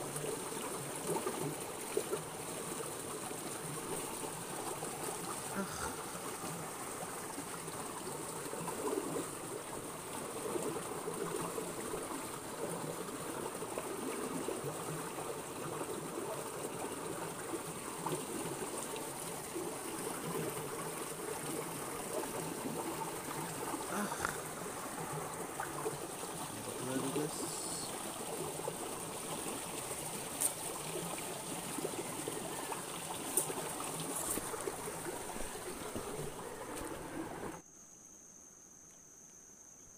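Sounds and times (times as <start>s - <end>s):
stream trickling over rocks: 0.0s - 37.6s.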